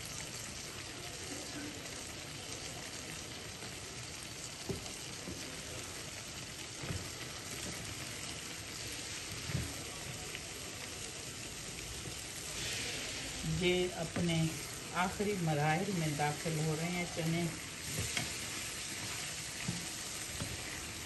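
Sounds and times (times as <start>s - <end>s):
chickpeas sizzling in oil: 0.0s - 21.0s.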